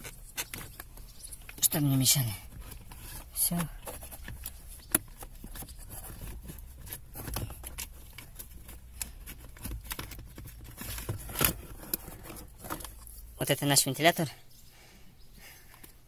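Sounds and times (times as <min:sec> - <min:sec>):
scraping and rustling: 0:00.0 - 0:13.4.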